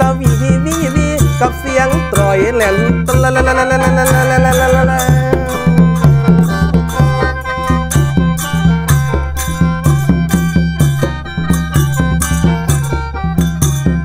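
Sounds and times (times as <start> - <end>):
bamboo mouth organ melody: 0.0 - 14.0
hand drum beat: 0.0 - 14.0.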